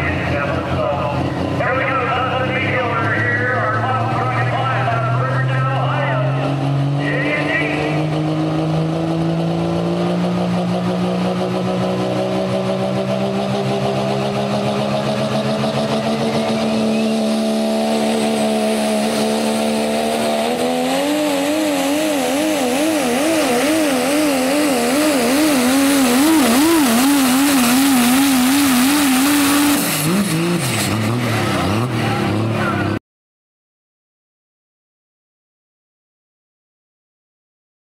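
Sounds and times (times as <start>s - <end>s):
truck engine revving hard: 0.0s - 33.0s.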